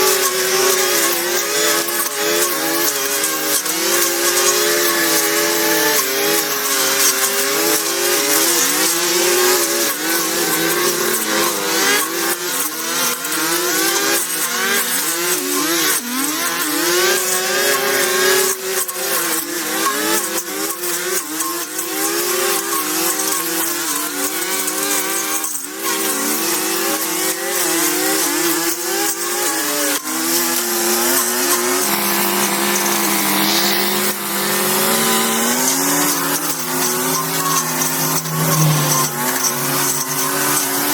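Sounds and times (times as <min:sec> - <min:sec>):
motor running with wavering pitch: 0:00.0 - 0:40.9.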